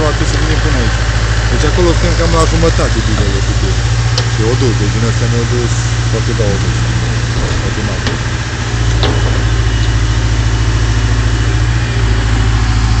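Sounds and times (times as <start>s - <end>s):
excavator engine idling: 0.0s - 13.0s.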